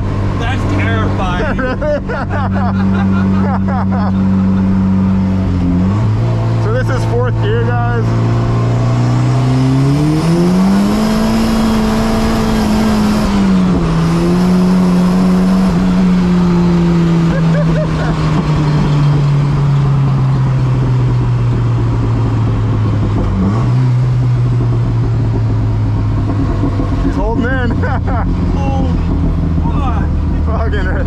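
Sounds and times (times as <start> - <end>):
car engine from inside cabin: 0.0 - 31.0.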